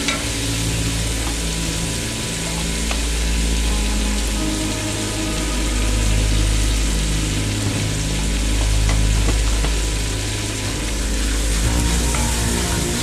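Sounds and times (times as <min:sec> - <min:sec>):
garlic sizzling in oil: 0:00.0 - 0:13.0
low steady hum: 0:00.0 - 0:13.0.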